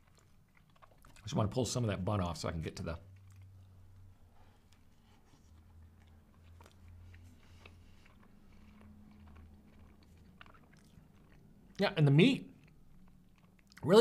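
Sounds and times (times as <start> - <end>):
person chewing sandwich: 0.0 - 1.3, 3.0 - 13.9.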